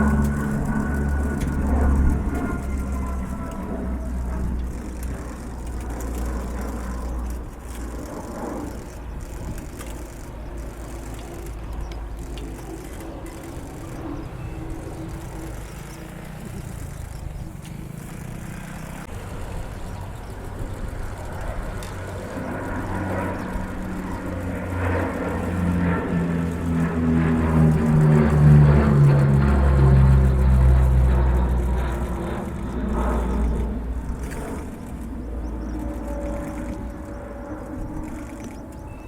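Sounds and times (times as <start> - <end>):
distant turboprop engines rumbling: 0.0 - 39.0.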